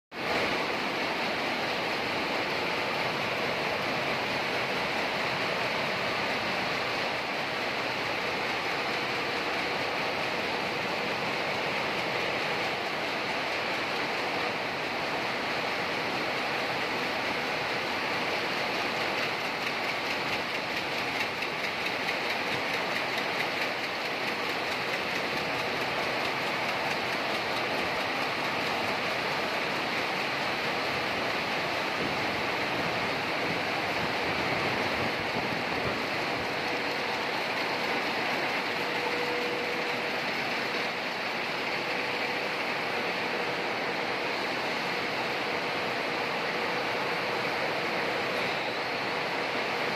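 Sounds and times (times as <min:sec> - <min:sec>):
weaving looms clattering: 0:00.2 - 0:49.9.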